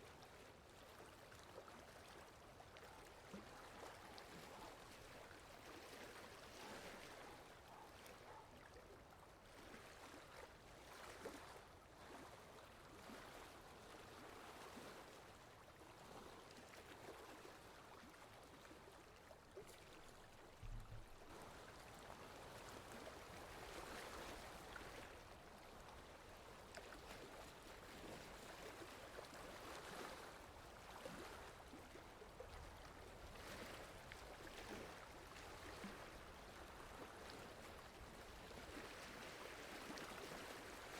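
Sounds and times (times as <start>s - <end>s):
water lapping: 0.1s - 40.9s.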